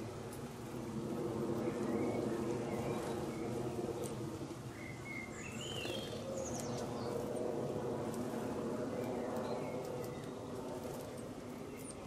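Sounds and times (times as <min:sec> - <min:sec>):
low droning hum: 0:00.0 - 0:12.0
small birds chirping: 0:00.0 - 0:12.0.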